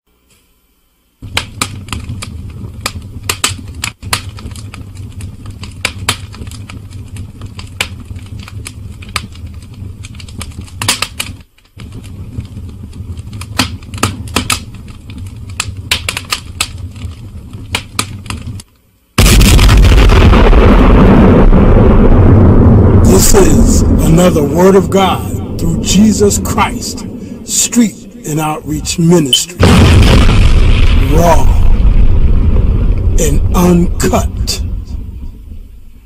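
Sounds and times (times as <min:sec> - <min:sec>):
steady low hum: 0:00.1 - 0:36.0.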